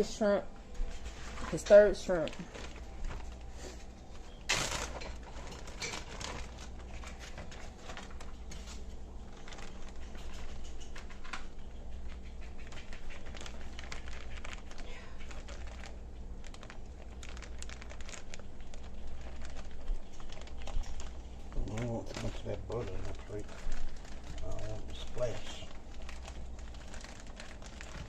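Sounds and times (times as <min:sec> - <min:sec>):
utensil clatter: 0:04.5 - 0:28.0.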